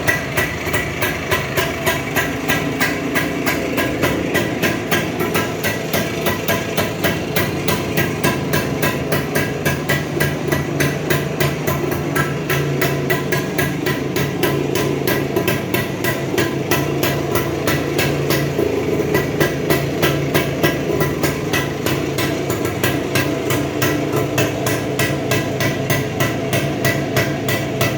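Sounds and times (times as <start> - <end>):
two-stroke engine idling: 0.0 - 27.9.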